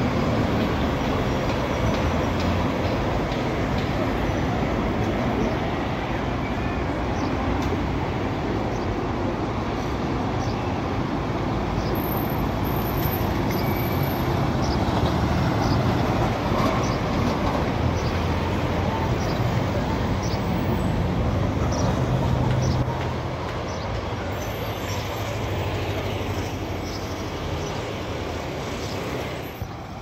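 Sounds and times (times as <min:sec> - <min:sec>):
street traffic: 0:00.0 - 0:30.0.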